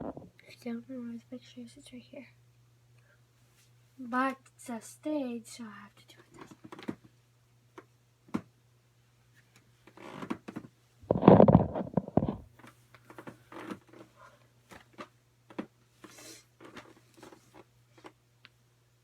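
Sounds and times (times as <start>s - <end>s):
steady low hum: 0.0s - 9.9s, 10.8s - 19.0s.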